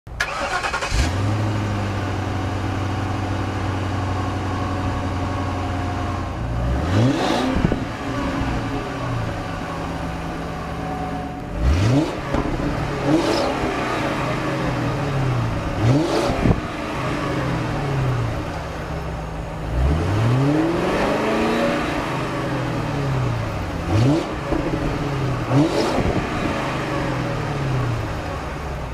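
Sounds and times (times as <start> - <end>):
car exhaust idling and revving: 0.9 - 28.9.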